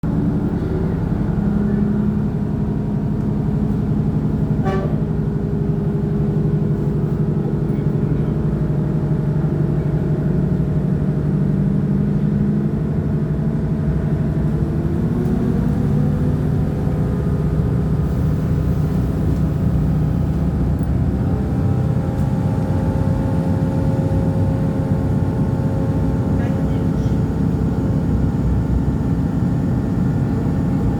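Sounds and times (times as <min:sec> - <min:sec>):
diesel railcar engine running: 0:00.0 - 0:30.9.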